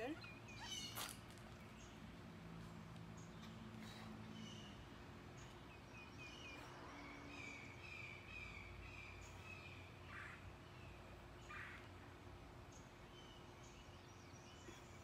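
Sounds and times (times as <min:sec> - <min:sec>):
bird chirping: 0:00.0 - 0:02.2, 0:03.1 - 0:15.0.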